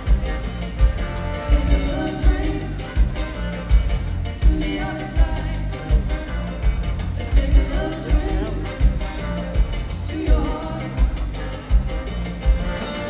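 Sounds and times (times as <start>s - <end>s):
live soul band with singing: 0.0s - 13.0s.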